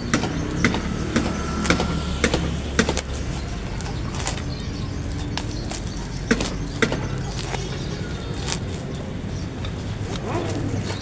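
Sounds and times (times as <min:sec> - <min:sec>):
scissors snipping plastic: 0:00.0 - 0:09.0
plastic crackling: 0:00.8 - 0:11.0.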